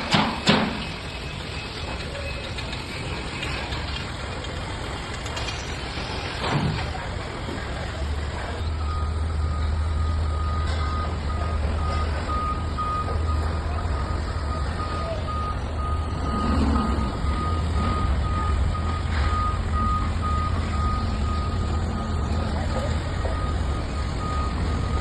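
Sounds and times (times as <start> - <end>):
vehicle reversing alarm beeping: 0.0 - 3.8, 6.0 - 25.0
diesel engine rumbling: 0.0 - 25.0.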